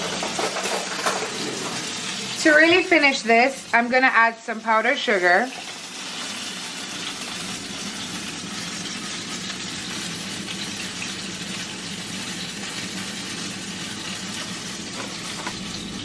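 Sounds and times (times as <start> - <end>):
oil sizzling in a frying pan: 0.0 - 16.0.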